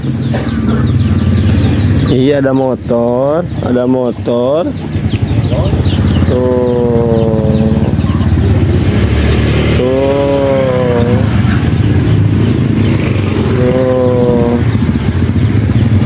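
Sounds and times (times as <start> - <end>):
motor scooters passing: 0.0 - 16.0.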